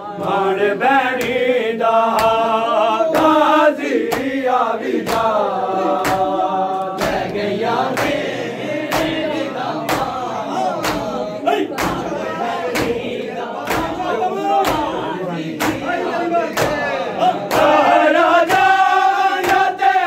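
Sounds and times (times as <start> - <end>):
men chanting together: 0.0 - 20.0
hands slapping chests: 1.0 - 20.0.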